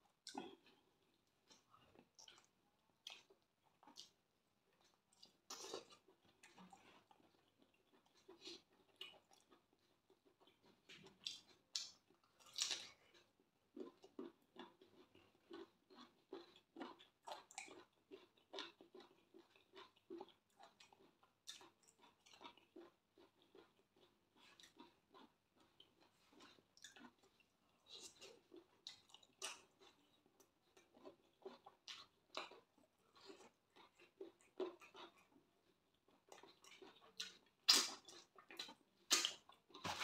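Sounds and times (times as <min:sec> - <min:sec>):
person chewing with wet smacks: 0:00.0 - 0:40.0.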